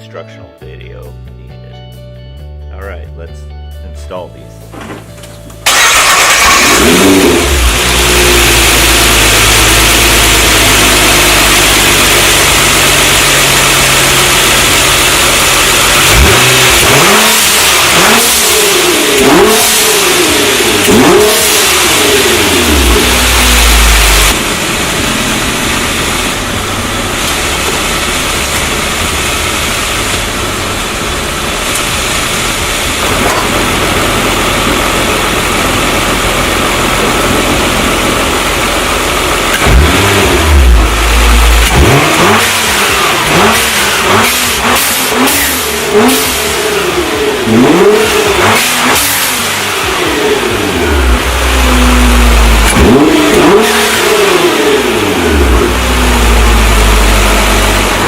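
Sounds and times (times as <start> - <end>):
car engine revving: 5.6 - 58.0.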